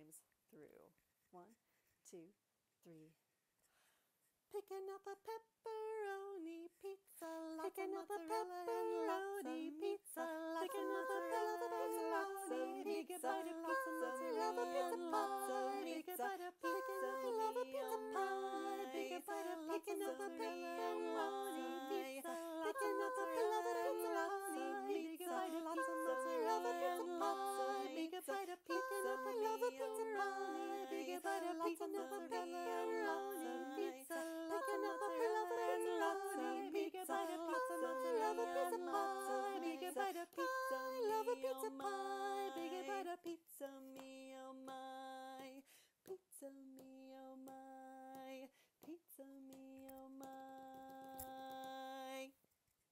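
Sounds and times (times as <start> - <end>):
woman singing a cappella round: 4.5 - 52.4.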